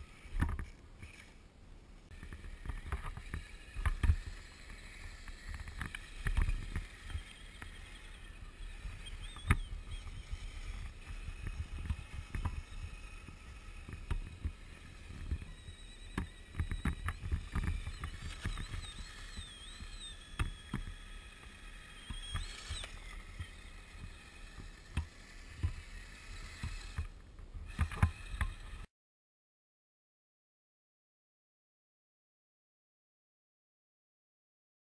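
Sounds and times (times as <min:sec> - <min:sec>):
electric motors whining: 0:00.0 - 0:01.4, 0:02.0 - 0:28.9.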